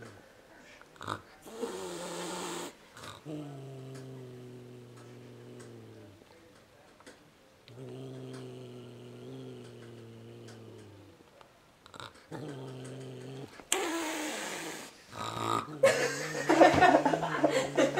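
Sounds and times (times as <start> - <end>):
cat growling: 1.0 - 6.5, 7.7 - 11.2, 11.8 - 17.9.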